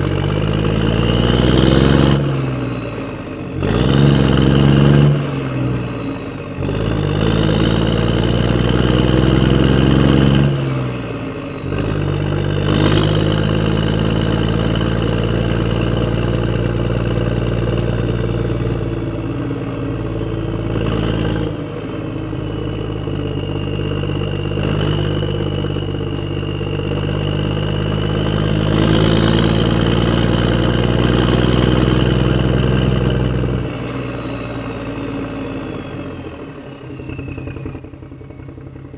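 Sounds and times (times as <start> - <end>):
engine-like hum: 0.0 - 38.9
high motor whine: 0.0 - 38.9.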